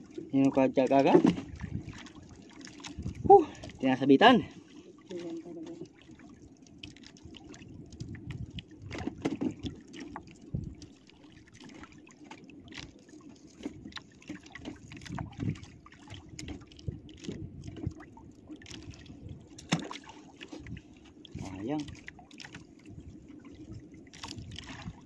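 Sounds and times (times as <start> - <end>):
waves lapping against boat hull: 0.0 - 25.0.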